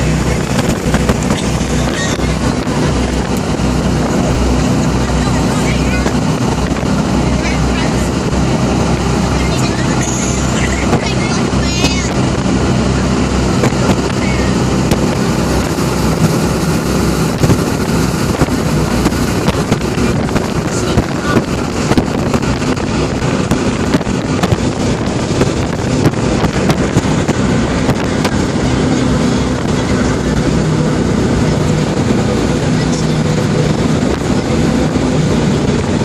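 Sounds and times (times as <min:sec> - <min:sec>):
boat engine running: 0:00.0 - 0:36.0
rushing water spray: 0:00.0 - 0:36.0
wind: 0:00.0 - 0:36.0.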